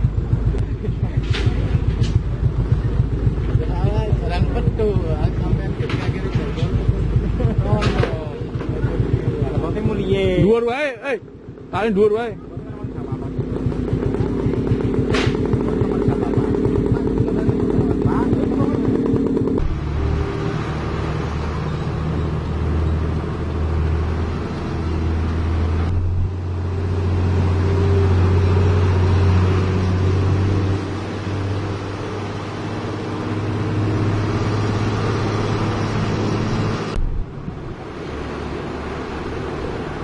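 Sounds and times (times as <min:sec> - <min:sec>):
heavy diesel engine droning: 0:00.0 - 0:40.0.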